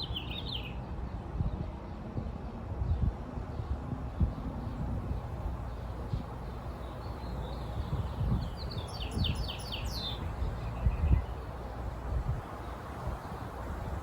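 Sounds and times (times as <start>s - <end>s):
songbird singing: 0.0s - 2.0s, 2.9s - 14.0s.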